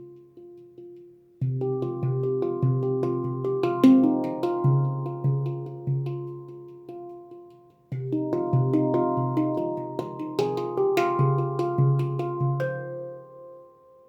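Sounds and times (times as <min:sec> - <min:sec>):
handpan notes ringing: 0:00.0 - 0:14.0.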